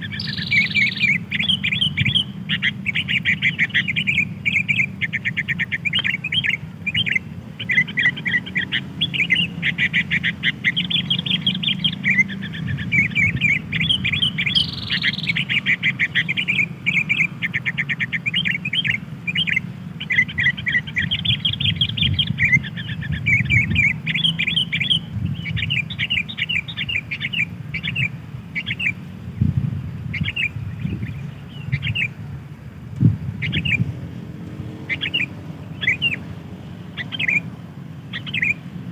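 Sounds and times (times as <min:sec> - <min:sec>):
steady low rumble: 0:00.0 - 0:34.8
birds chirping rapidly: 0:00.0 - 0:38.9.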